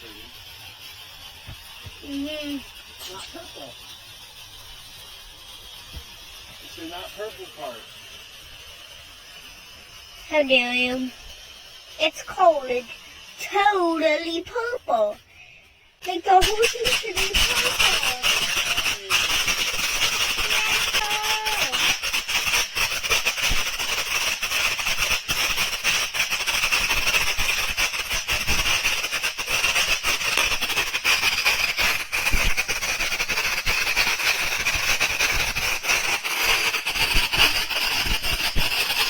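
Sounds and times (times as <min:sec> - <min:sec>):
firework crackling pops: 0:00.0 - 0:39.0
firework fountain hissing and whistling: 0:00.0 - 0:39.0.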